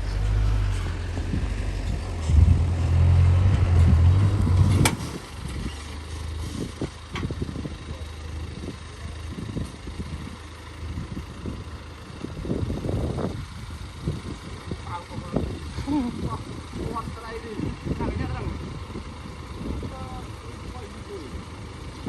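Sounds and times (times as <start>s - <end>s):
vehicle engine droning: 0.0s - 22.0s.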